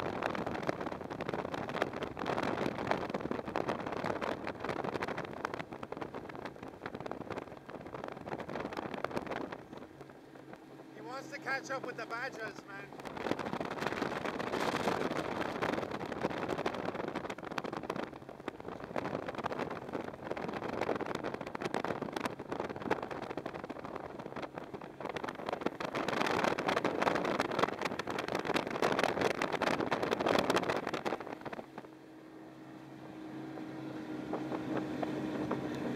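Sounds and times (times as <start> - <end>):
racing outboard engines at high revs: 0.0 - 35.9.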